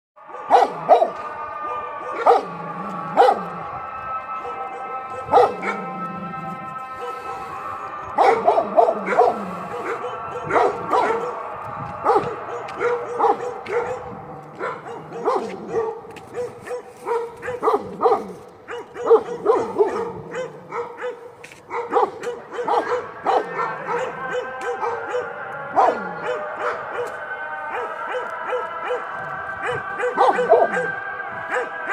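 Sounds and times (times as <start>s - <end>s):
dog barking: 0.2s - 3.6s, 4.4s - 6.0s, 6.9s - 7.4s, 8.1s - 11.4s, 12.1s - 31.9s.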